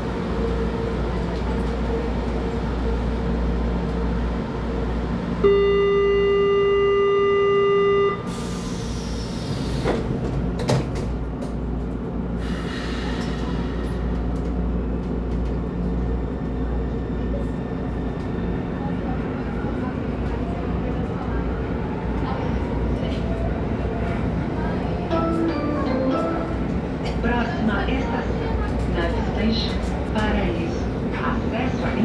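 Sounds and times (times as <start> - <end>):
train car hum: 0.0 - 32.0.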